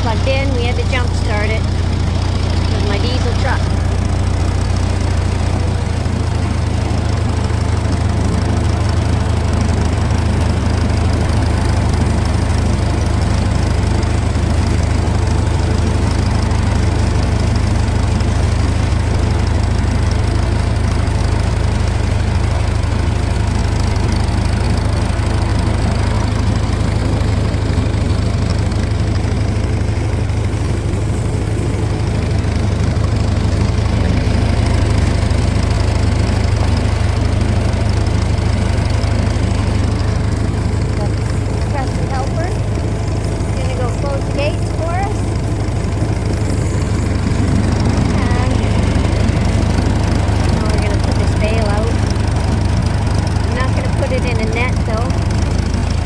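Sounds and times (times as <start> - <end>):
tractor engine low drone: 0.0 - 56.0.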